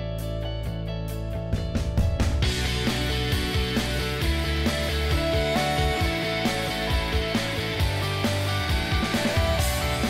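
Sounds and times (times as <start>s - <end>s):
rock music with guitar and drums: 0.0s - 10.0s.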